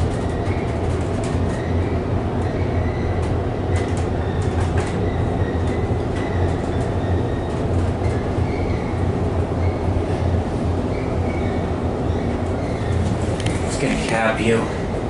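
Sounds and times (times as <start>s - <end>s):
elevator car rumbling: 0.0s - 15.0s.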